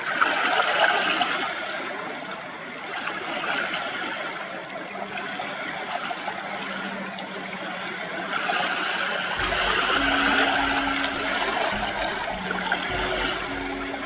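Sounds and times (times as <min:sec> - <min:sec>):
water rushing and trickling: 0:00.0 - 0:14.0.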